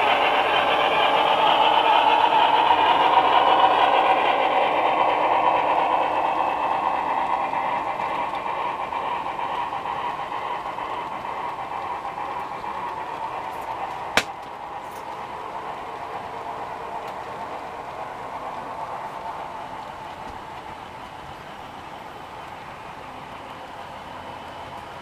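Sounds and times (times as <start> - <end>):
model train rolling: 0.0 - 25.0.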